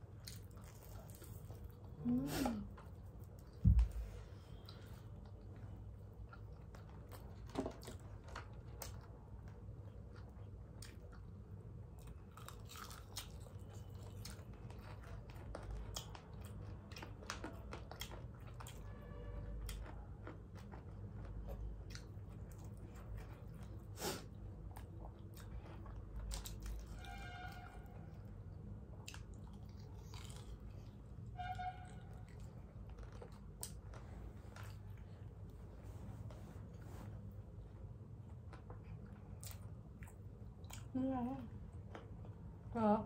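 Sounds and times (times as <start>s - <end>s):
people chewing crispy chicken: 0.0s - 3.6s, 4.5s - 27.1s, 28.2s - 31.1s, 32.2s - 35.3s, 38.2s - 42.5s.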